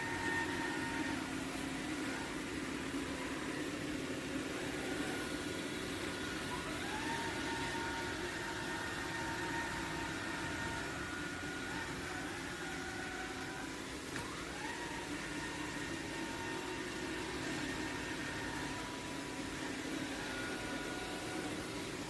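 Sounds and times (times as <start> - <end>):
robot vacuum humming and whining: 0.0 - 22.0.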